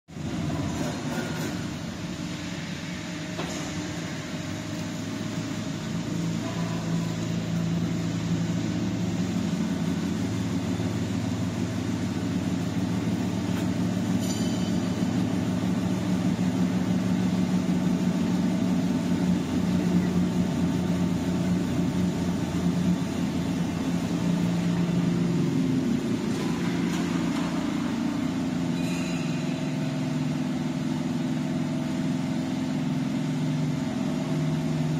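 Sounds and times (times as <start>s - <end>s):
steady machine hum: 0.1s - 34.9s.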